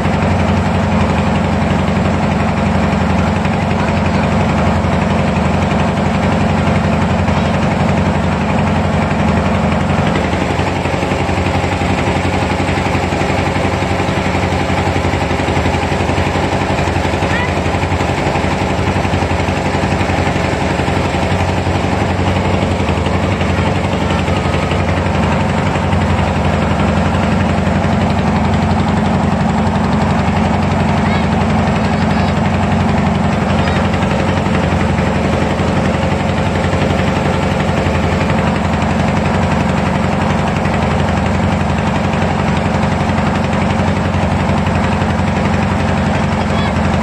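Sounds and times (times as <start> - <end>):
boat engine droning: 0.0 - 47.0.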